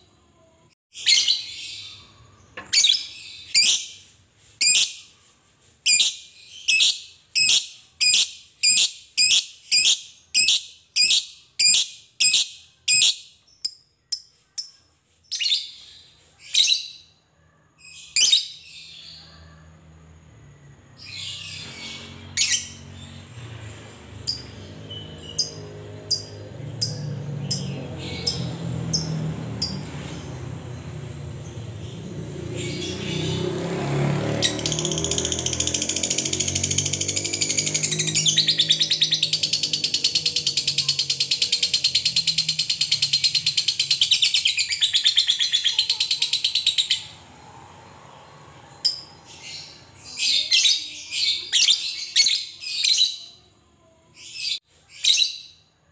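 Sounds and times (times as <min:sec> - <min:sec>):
lovebird chirping and trilling: 0:00.9 - 0:05.1, 0:05.9 - 0:17.2, 0:17.8 - 0:19.4, 0:21.0 - 0:33.6, 0:34.4 - 0:47.2, 0:48.7 - 0:53.4.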